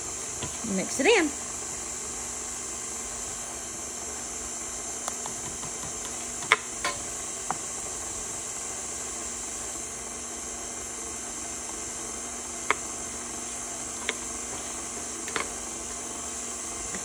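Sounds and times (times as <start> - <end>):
stand mixer running: 0.0 - 17.0.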